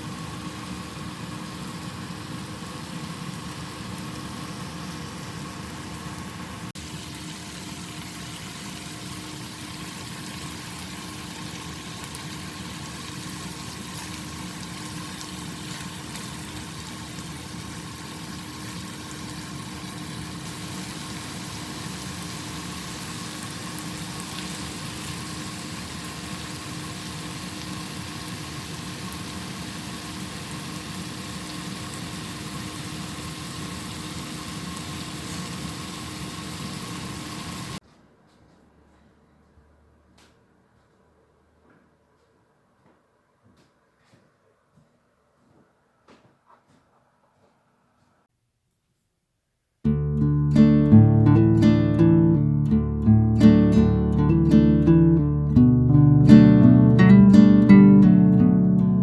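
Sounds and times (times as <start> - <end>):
steady mechanical hum: 0.0 - 48.3.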